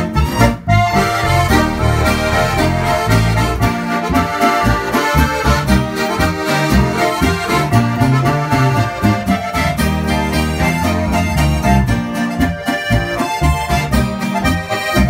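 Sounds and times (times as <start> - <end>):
pulsing electric bass: 0.0 - 14.2
button accordions playing tune: 0.0 - 15.0
guitar: 0.0 - 15.0.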